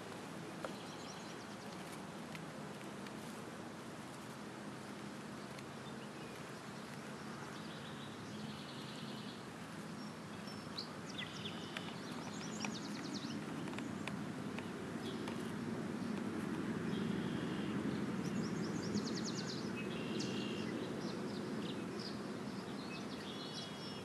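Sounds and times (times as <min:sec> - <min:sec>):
low background noise: 0:00.0 - 0:24.0
birds chirping and trilling: 0:00.6 - 0:01.9, 0:05.4 - 0:24.0.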